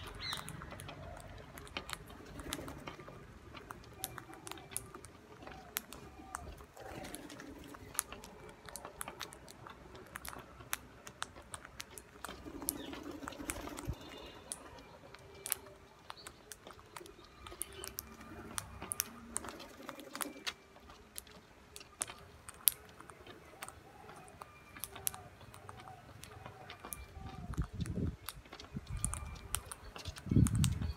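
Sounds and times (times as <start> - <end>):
beak clicks and taps: 0.0 - 30.9
parakeets pecking seed: 0.0 - 30.9.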